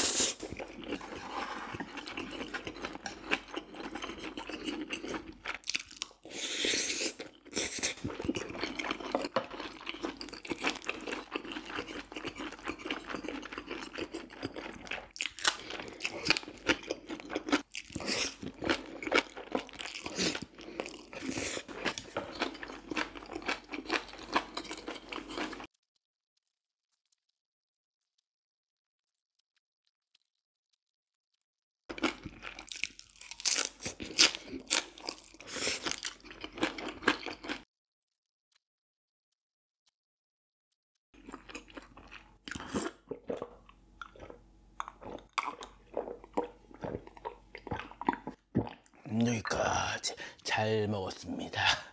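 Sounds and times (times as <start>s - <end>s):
chewing and crunching food: 0.0s - 25.9s, 31.9s - 37.7s, 41.2s - 51.9s.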